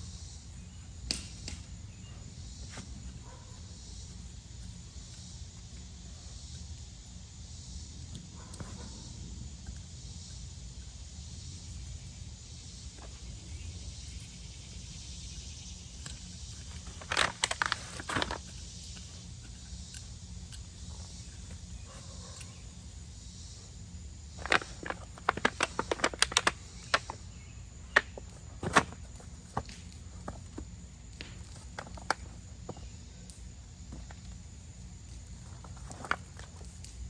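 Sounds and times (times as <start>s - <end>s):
garden soil crunching and scraping: 0.0s - 37.0s.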